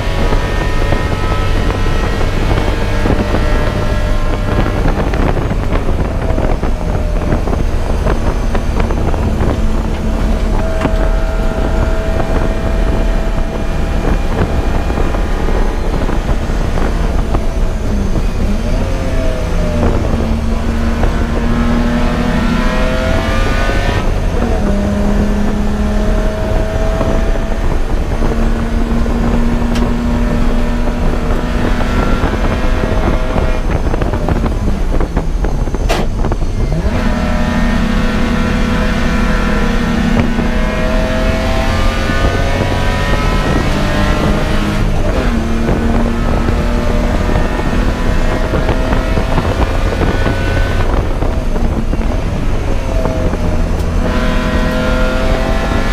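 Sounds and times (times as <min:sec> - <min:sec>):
race car engine at full throttle: 0:00.0 - 0:55.9.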